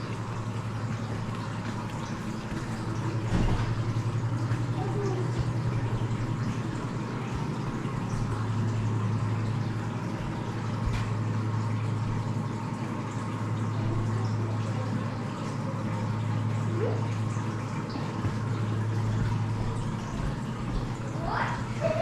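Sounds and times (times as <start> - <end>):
filter pump humming: 0.0 - 22.0
water trickling and splashing: 0.0 - 22.0.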